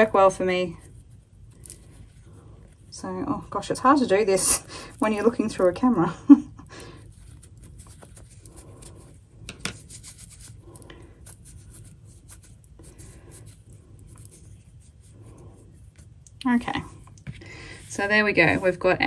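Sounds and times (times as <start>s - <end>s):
fabric rubbing and rustling: 0.0s - 6.1s, 7.0s - 19.0s.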